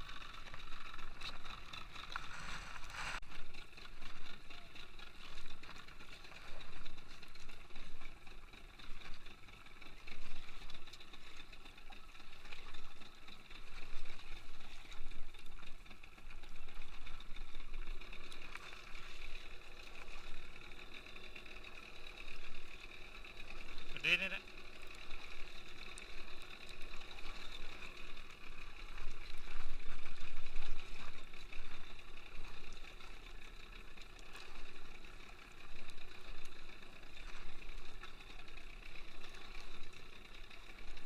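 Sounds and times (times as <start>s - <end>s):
water sloshing against hull: 0.0s - 41.0s.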